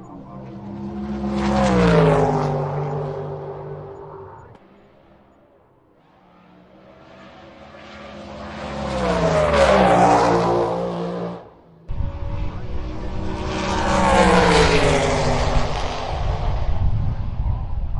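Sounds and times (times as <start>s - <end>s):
drag racing cars passing at speed: 0.0s - 17.9s.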